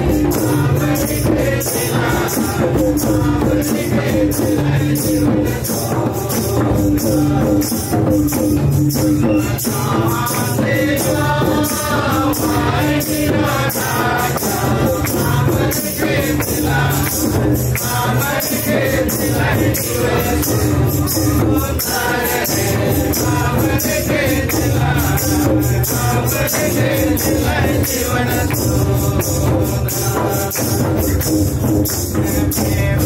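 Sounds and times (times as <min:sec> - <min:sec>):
group singing a hymn: 0:00.0 - 0:33.0
hand percussion beat: 0:00.0 - 0:33.0.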